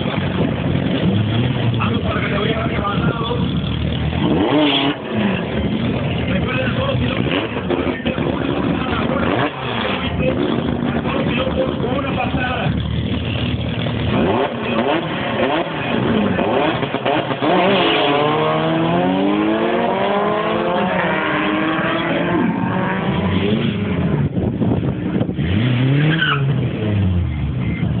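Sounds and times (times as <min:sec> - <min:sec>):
drag car engines accelerating: 0:00.0 - 0:28.0
nearer engine revving: 0:00.0 - 0:28.0.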